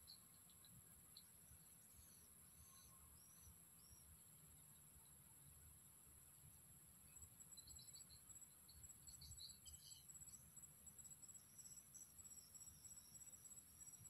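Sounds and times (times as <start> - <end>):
faint bird chirps: 0.0 - 5.8, 6.4 - 14.0
cricket chirping: 0.0 - 14.0
high-pitched insect hum: 0.0 - 14.0.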